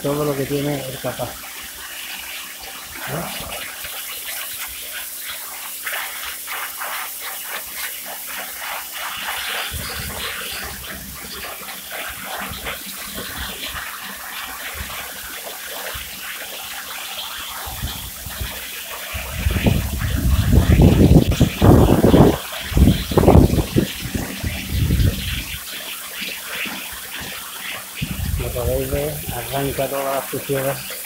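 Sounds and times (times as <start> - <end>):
pressure washer jet hissing: 0.0 - 31.0.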